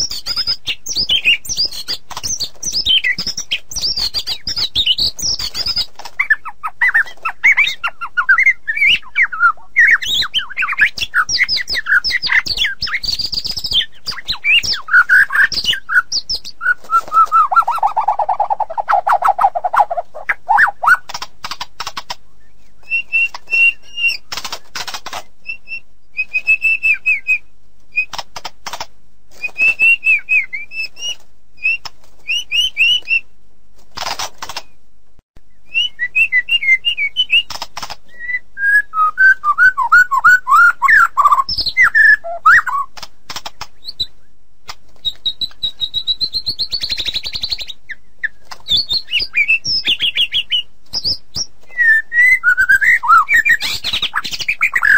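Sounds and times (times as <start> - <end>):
songbird singing varied song: 0.0 - 28.2, 29.4 - 33.3, 35.4 - 44.3, 45.0 - 54.9.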